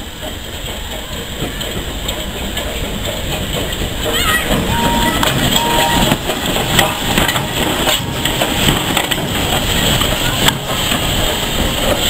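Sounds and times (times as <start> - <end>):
steam locomotive running past: 0.0 - 12.0.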